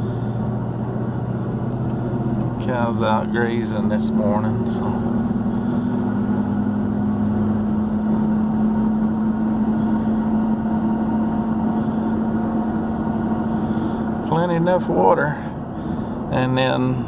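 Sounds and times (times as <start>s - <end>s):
car engine and road noise: 0.0s - 17.0s
low hum: 0.0s - 17.0s.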